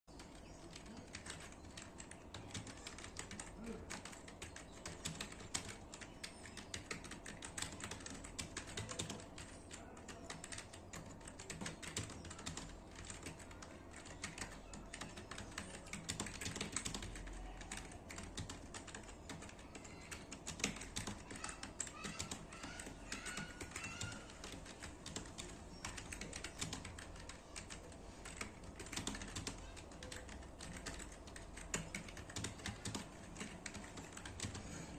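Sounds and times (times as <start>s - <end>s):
rapid keyboard typing: 0.1s - 34.9s.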